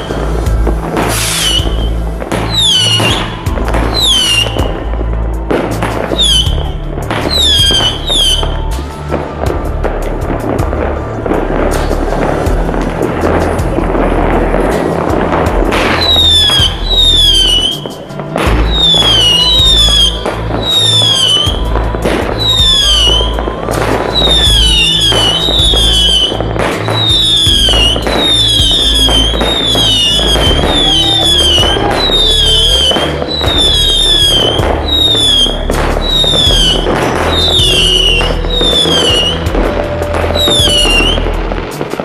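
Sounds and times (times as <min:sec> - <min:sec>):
fireworks whistling and cracking: 0:00.0 - 0:42.0
music: 0:00.0 - 0:42.0.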